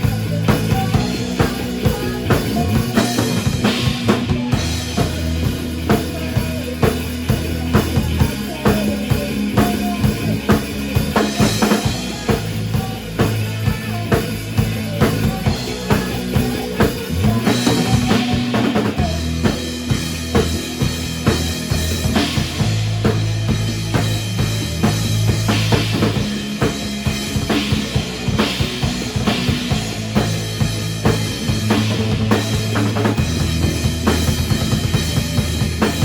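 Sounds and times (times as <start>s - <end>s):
bass line: 0.0s - 36.0s
drum kit beat: 0.0s - 36.0s.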